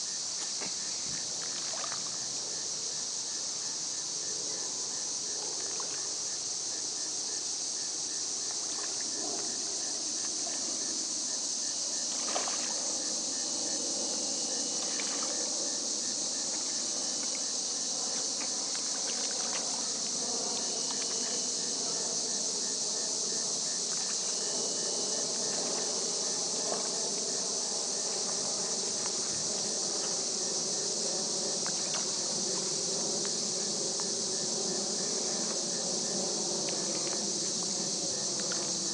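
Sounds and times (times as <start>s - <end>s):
high-pitched insect chorus: 0.0s - 38.9s
insect pulsing chirp: 0.0s - 38.9s.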